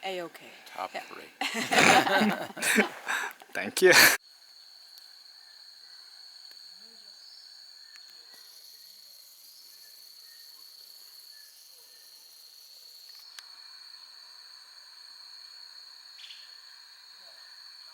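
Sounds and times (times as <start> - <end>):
insects trilling: 0.0 - 17.9
shrill hissing insects: 0.0 - 17.9.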